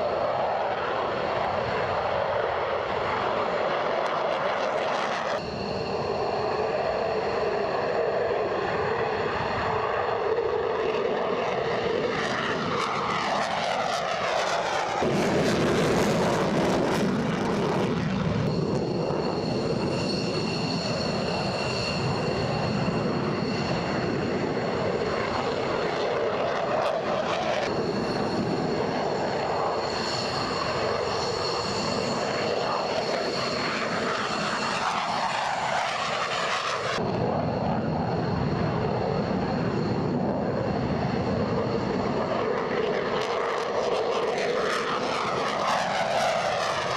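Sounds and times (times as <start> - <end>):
high engine whine: 0.0 - 46.9
jet engines roaring on takeoff: 0.0 - 46.9.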